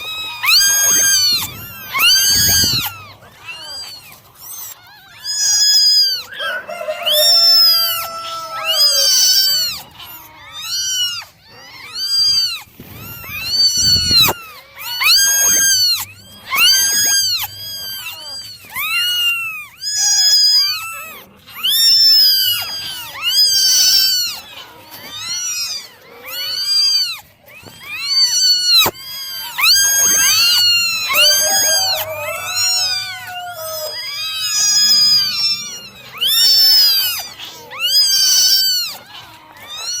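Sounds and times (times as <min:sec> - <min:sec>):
kittens meowing: 0:00.0 - 0:40.0.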